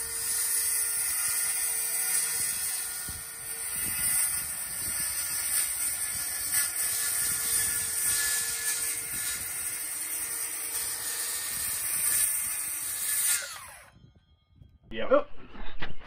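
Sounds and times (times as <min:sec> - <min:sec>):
circular saw cutting board: 0:00.0 - 0:13.9.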